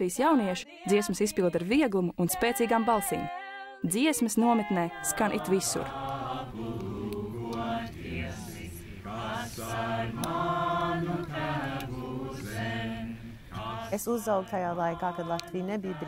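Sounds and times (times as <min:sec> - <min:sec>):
young voices singing unaccompanied: 0:02.3 - 0:03.8, 0:04.4 - 0:16.0.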